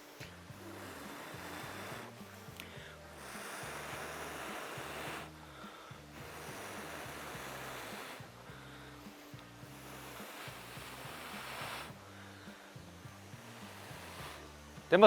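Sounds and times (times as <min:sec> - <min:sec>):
hissing breath blowing: 0:00.0 - 0:15.0
soft background music: 0:00.0 - 0:15.0.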